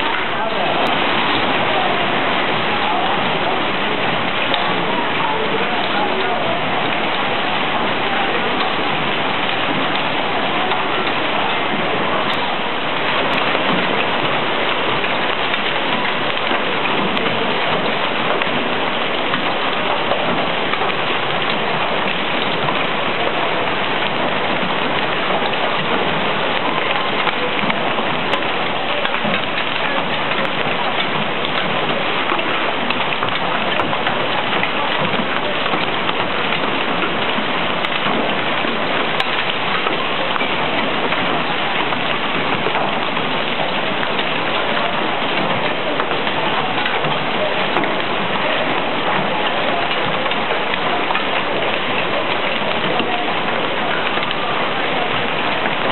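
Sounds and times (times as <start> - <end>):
hail and rain pelting street: 0.0 - 55.9.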